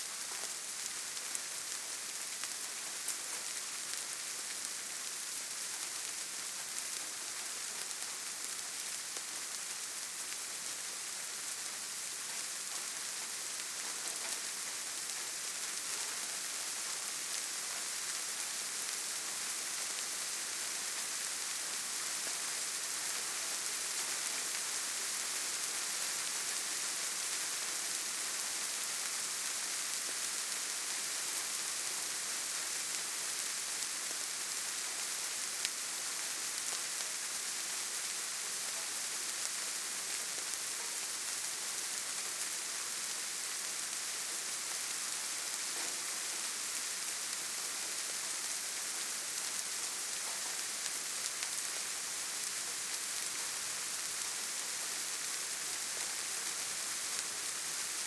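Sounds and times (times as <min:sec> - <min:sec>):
rain on foliage: 0:00.0 - 0:58.0.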